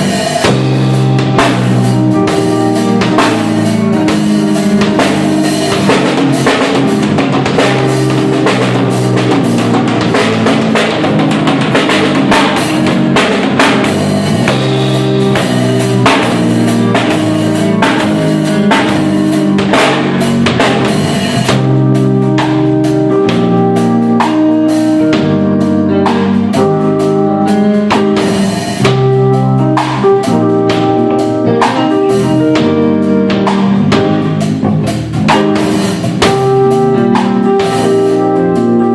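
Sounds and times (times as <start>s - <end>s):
drum kit playing: 0.0s - 38.9s
electric bass line: 0.0s - 38.9s
keyboard chords: 0.0s - 38.9s.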